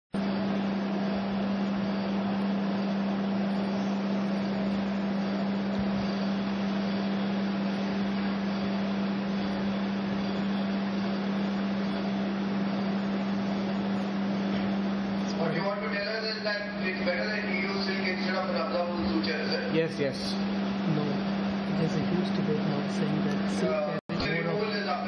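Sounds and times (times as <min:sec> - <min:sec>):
steady low hum: 0:00.1 - 0:25.0.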